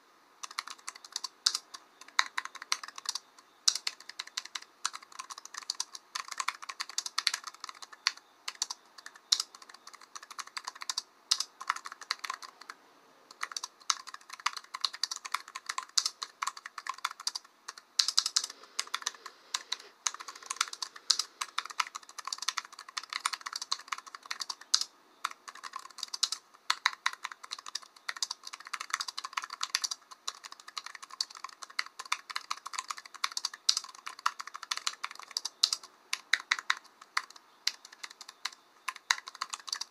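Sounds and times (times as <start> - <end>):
fast typing on keyboard: 0.4 - 39.9.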